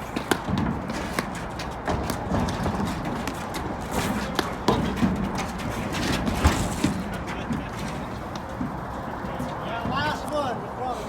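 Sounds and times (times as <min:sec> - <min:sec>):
players' footsteps on court: 0:00.0 - 0:11.0.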